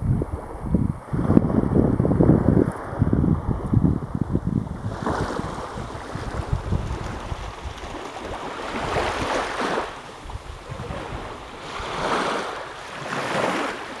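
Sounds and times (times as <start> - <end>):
sea waves washing onto beach: 0.0 - 14.0
wind rumbling on microphone: 0.0 - 14.0.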